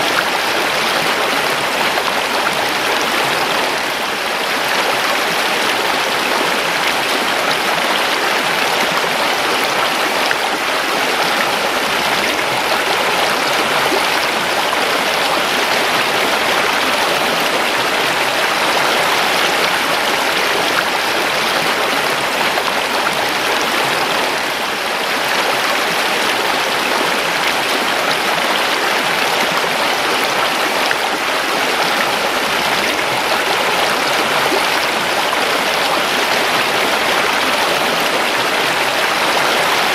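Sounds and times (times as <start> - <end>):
creek flowing over stones: 0.0 - 39.9.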